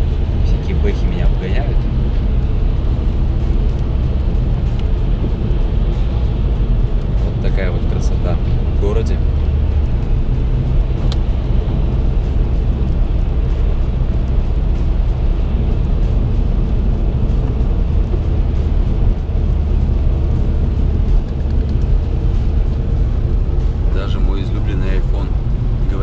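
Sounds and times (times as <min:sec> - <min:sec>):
car engine and tyre drone: 0:00.0 - 0:26.0
tyres hissing on wet road: 0:00.0 - 0:26.0.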